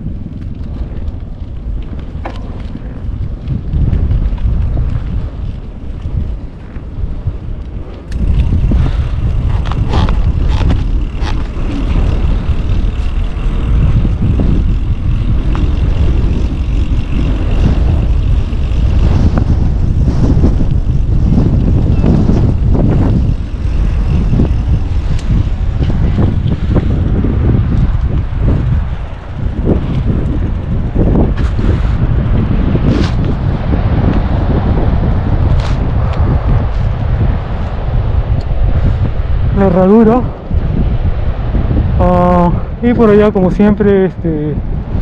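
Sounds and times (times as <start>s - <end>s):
bicycle clicking and rattling: 0.0s - 42.5s
wind buffeting microphone: 0.0s - 45.0s.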